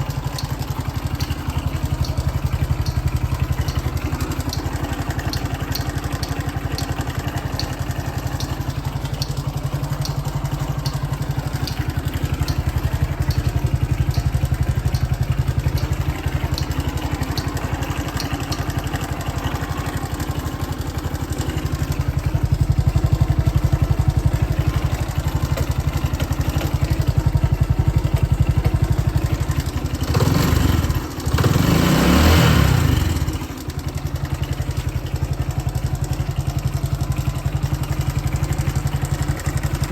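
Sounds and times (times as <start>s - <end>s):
motorcycle engine idling: 0.0s - 39.9s
faint regular tick: 0.1s - 31.6s, 32.8s - 39.9s.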